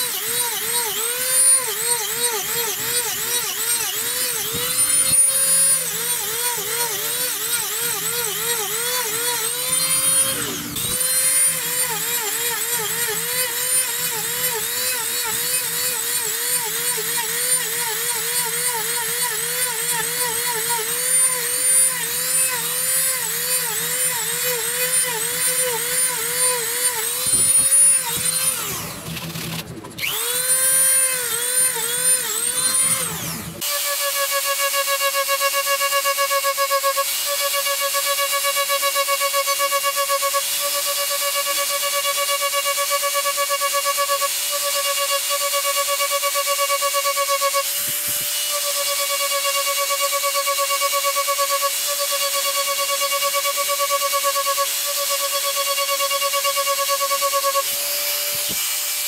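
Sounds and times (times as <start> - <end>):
rotary tool cutting wood: 0.0 - 59.0.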